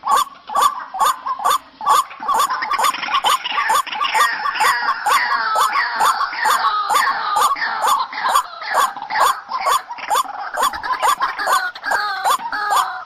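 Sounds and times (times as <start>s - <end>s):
waterhen croaking calls: 0.0s - 13.0s.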